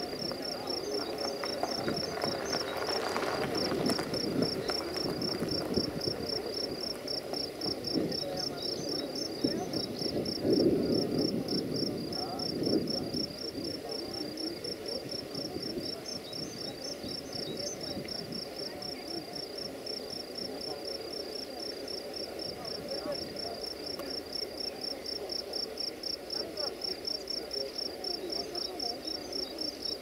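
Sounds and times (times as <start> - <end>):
chatter of voices: 0.0 - 30.0.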